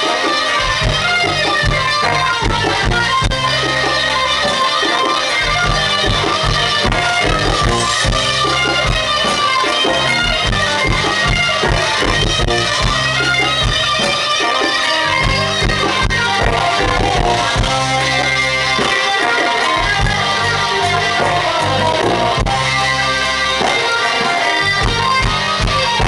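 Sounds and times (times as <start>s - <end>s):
bass guitar: 0.0s - 26.0s
drum kit: 0.0s - 26.0s
fast electric guitar lead: 0.0s - 26.0s.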